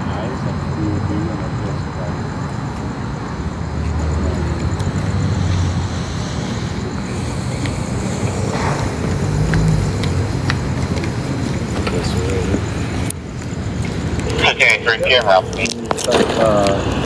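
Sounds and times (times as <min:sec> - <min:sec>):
cars passing with engine rumble: 0:00.0 - 0:17.0.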